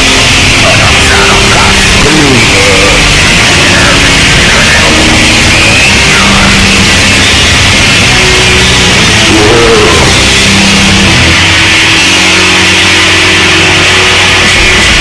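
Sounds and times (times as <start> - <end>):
black metal music: 0.0 - 15.0.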